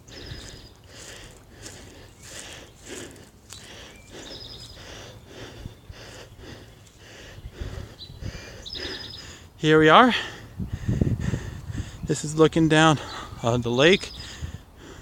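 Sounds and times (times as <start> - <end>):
person breathing hard: 0.0 - 12.1, 14.2 - 15.0.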